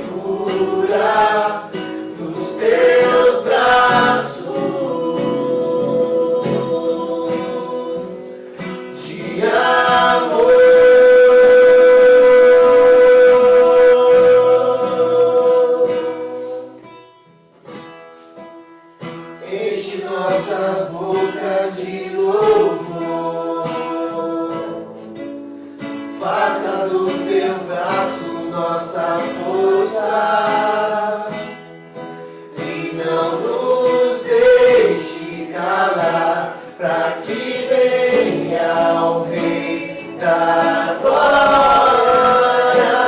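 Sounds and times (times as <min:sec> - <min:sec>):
voices singing worship song: 0:00.0 - 0:17.0, 0:19.0 - 0:43.0
acoustic guitar strumming: 0:00.0 - 0:43.0.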